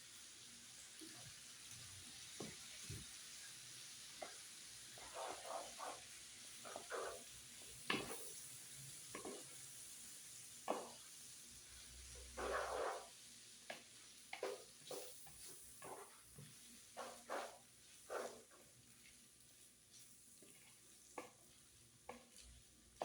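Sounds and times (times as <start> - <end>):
pasta sizzling on a griddle: 0.0 - 23.0.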